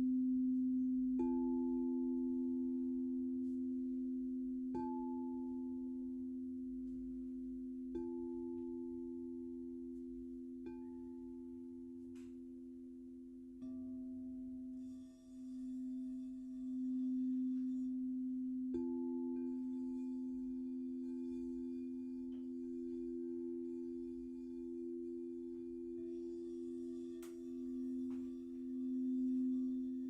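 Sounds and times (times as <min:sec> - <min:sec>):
light strikes on bowls: 0:00.0 - 0:30.0
singing bowls ringing: 0:00.0 - 0:30.0.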